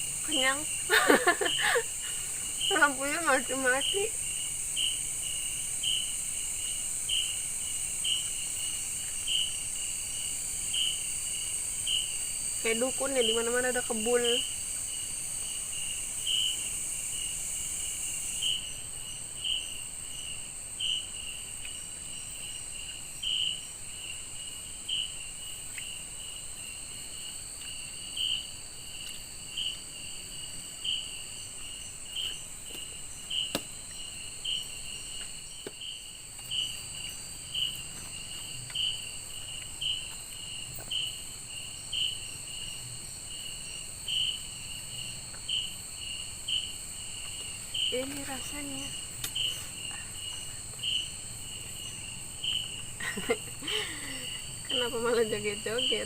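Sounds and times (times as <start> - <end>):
insects droning: 0.0 - 56.0
low insect chirp: 0.0 - 56.0.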